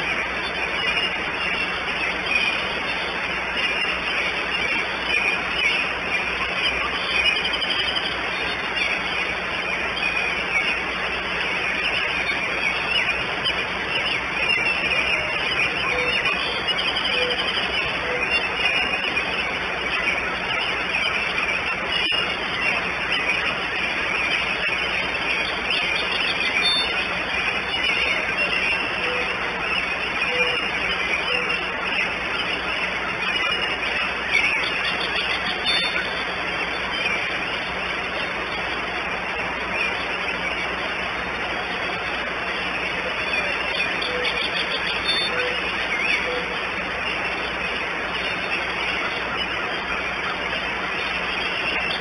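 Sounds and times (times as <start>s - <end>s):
small birds chirping faintly: 0.0s - 52.0s
steady rain falling: 0.0s - 52.0s.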